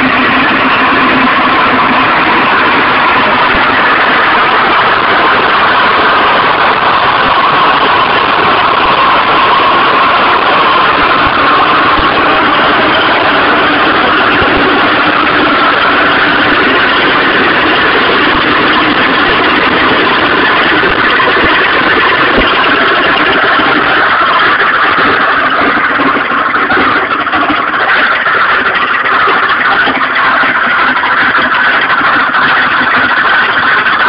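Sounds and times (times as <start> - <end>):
scooter engine running with knock: 0.0 - 34.0.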